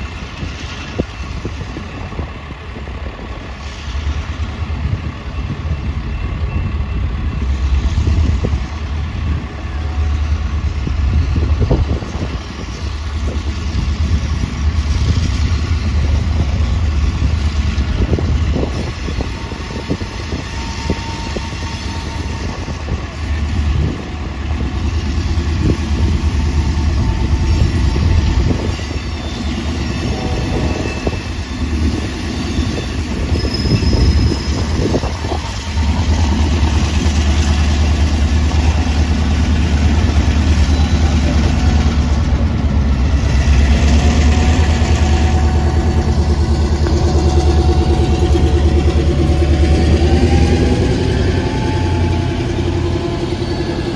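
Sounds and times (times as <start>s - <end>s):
diesel locomotive rumbling: 0.0s - 53.9s
train knocks: 10.4s - 53.9s.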